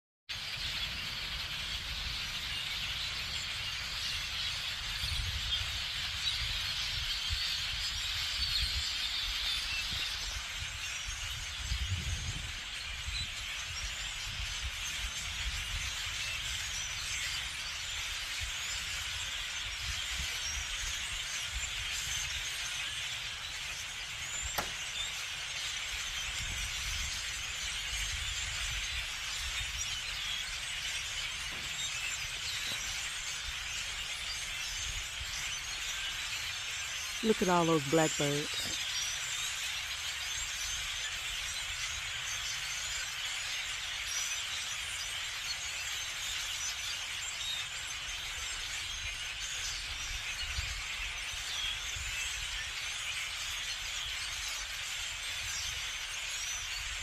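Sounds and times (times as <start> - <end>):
flock of blackbirds chattering: 0.3 - 57.0.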